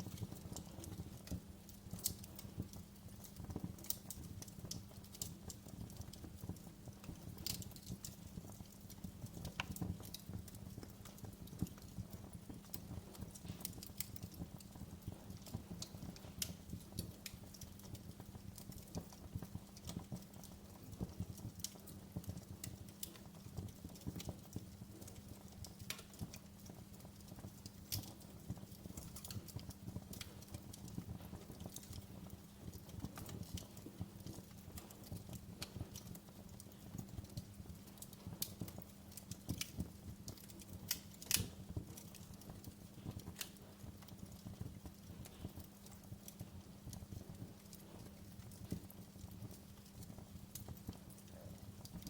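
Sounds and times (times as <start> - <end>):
fire pops and snaps: 0.0 - 52.0
low rumble of flames: 0.0 - 52.0
wood fire crackling: 0.0 - 52.0.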